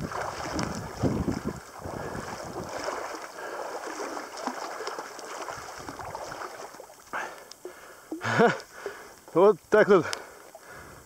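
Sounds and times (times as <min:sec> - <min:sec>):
person wading through water: 0:00.0 - 0:11.0.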